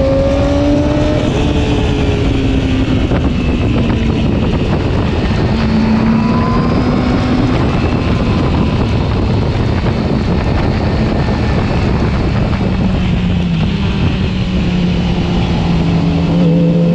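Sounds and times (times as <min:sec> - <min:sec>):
motorcycle engine running: 0:00.0 - 0:16.9
wind noise on microphone: 0:00.0 - 0:16.9.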